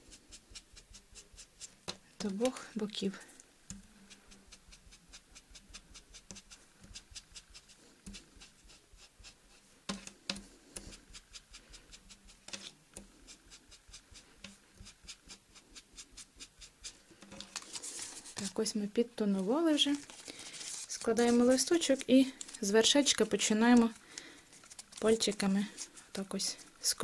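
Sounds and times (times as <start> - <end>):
sponge scratching strokes: 0.0 - 2.4, 4.0 - 18.7, 19.4 - 27.0.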